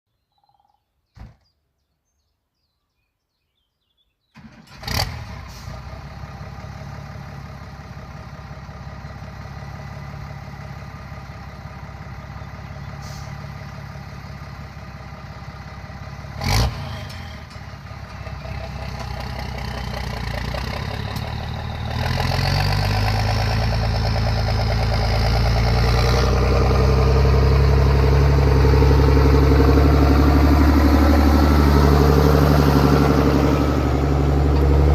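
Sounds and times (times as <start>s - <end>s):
tractor diesel engine: 4.4s - 34.9s.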